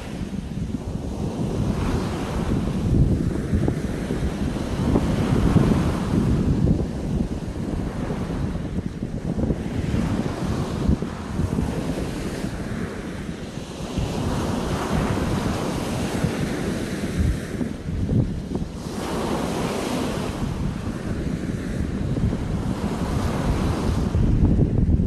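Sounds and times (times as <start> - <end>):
sea waves breaking on beach: 0.0 - 24.7
wind rumbling on microphone: 0.0 - 25.0.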